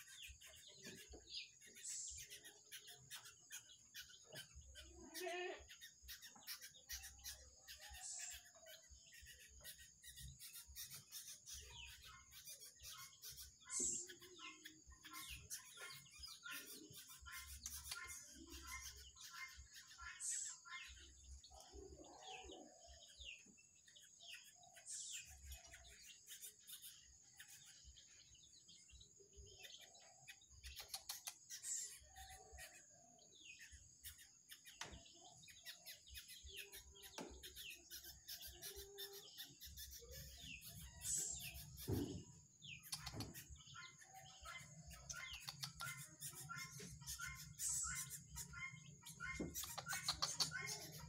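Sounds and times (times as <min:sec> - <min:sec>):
young birds chirping: 0:00.0 - 0:51.0.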